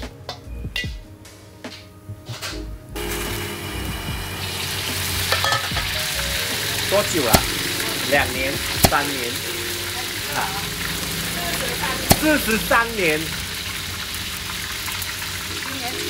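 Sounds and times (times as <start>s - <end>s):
food sizzling in hot oil: 3.0s - 16.0s.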